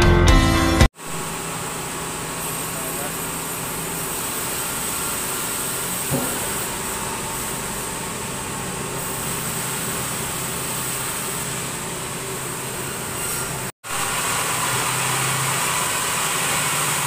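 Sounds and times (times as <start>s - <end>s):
band sawmill running: 0.0s - 17.0s.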